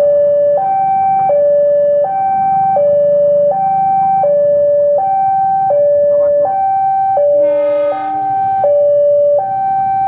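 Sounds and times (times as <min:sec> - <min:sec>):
diesel locomotive engine rumble: 0:00.0 - 0:10.0
two-tone crossing alarm: 0:00.0 - 0:10.0.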